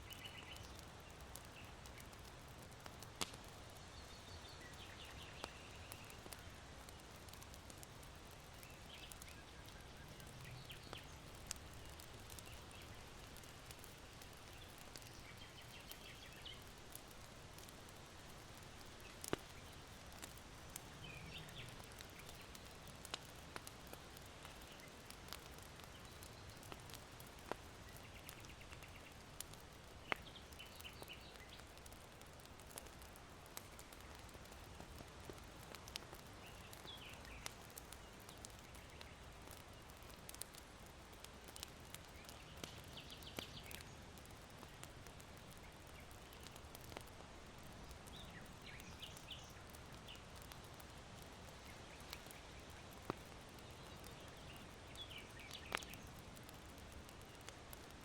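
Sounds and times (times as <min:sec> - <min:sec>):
soft wind hiss: 0:00.0 - 0:56.8
small birds chirping: 0:00.0 - 0:57.6
charcoal crackling and popping: 0:00.0 - 0:58.0.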